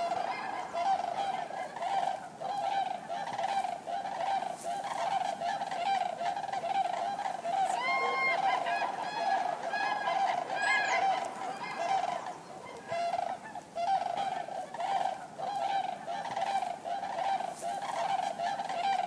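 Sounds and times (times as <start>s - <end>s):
cranes trumpeting: 0.0s - 19.0s.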